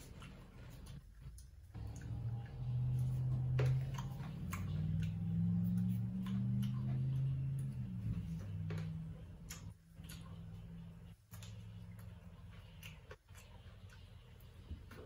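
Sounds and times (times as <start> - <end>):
low hum: 0.0 - 15.0
wet chewing and lip-smacking: 0.0 - 15.0.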